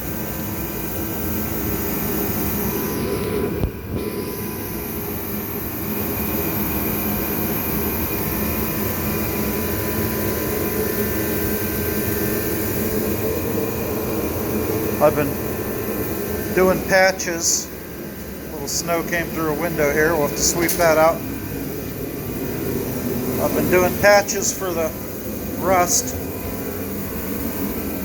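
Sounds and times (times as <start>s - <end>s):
kerosene heater roaring: 0.0s - 28.0s.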